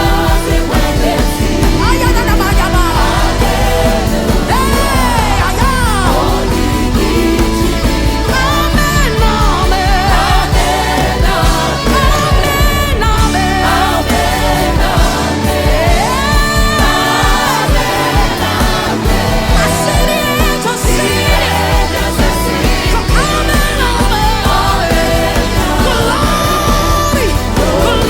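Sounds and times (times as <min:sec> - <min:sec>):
backing voices: 0:00.0 - 0:28.0
person singing gospel song: 0:00.0 - 0:28.0
steady beat: 0:00.0 - 0:28.0.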